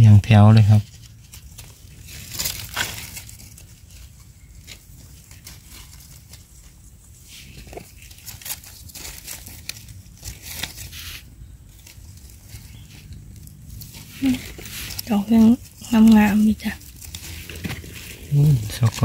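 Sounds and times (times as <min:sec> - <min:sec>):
dry leaves rustling and crackling: 0:00.6 - 0:19.0.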